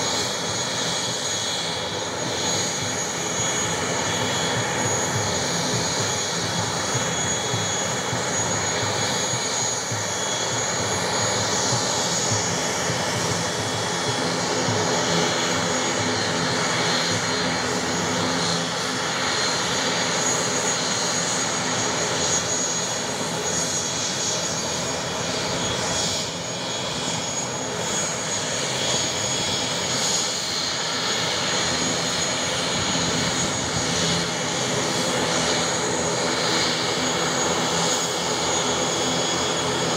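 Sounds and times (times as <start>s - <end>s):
turboprop engines whining: 0.0s - 39.9s.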